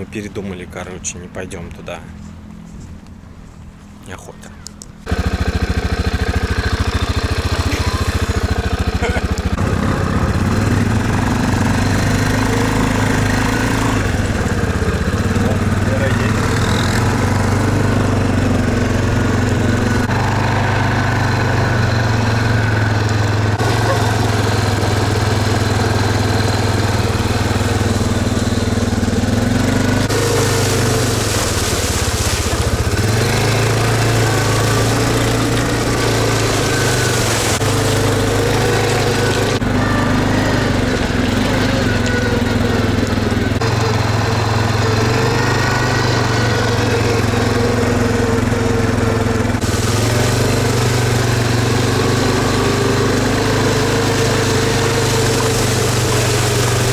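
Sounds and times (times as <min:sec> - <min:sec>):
quad bike engine running: 0:04.5 - 0:56.9.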